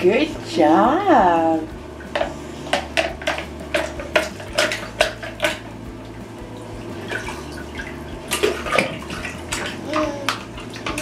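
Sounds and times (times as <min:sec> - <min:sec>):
bathwater splashing: 0:00.0 - 0:11.0
plastic bath toys knocking: 0:01.1 - 0:05.9, 0:06.9 - 0:11.0.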